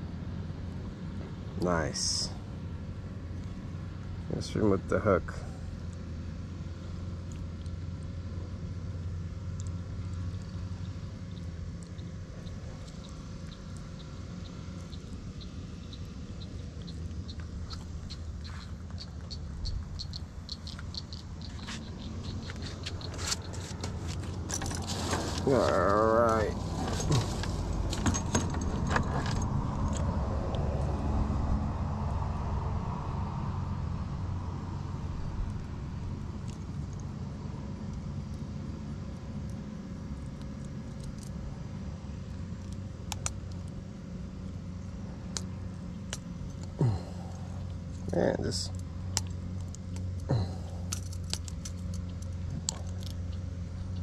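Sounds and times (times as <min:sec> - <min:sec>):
low mechanical motor hum: 0:00.0 - 0:54.0
steady low rumble: 0:00.0 - 0:54.0.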